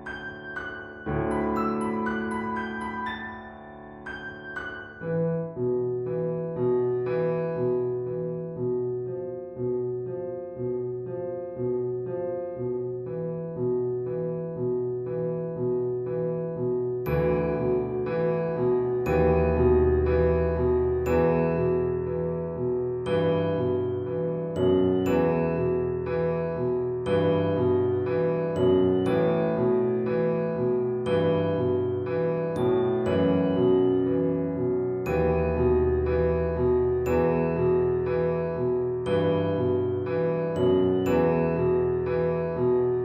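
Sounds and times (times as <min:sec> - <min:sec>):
slow piano music: 0:00.0 - 0:43.0
slow repeating keyboard notes: 0:00.0 - 0:43.0.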